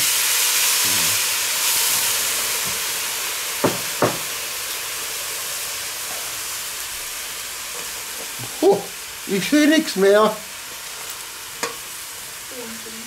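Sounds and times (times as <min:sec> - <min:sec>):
water hissing on hot pan: 0:00.0 - 0:13.0.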